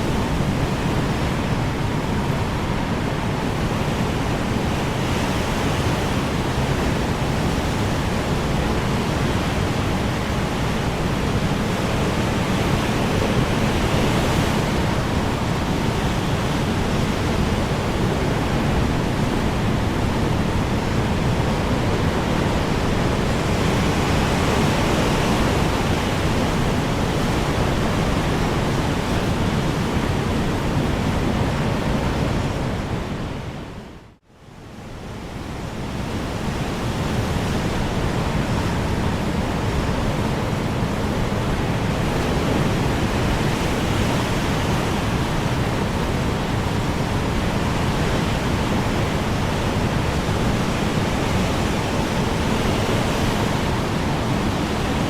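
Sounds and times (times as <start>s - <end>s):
strong wind blowing: 0.0s - 55.0s.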